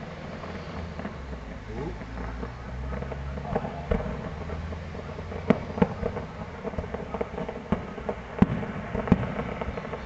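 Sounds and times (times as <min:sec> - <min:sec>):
fireworks bangs and crackling: 0:00.0 - 0:10.0.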